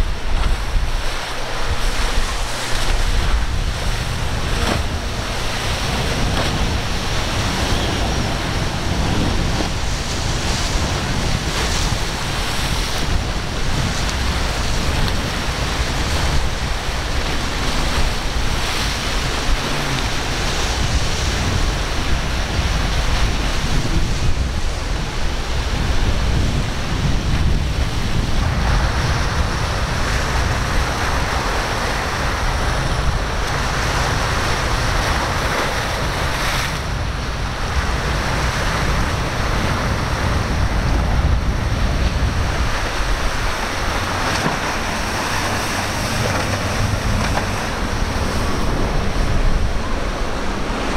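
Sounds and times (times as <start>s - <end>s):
rough sea surf: 0.0s - 50.9s
rush of boat wakes and spray: 0.0s - 50.9s
wind buffeting microphone: 0.0s - 50.9s.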